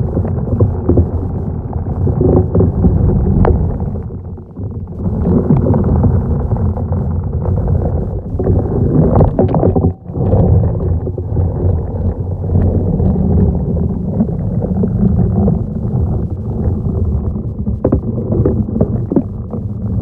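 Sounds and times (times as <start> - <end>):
underwater rumble: 0.0 - 20.0.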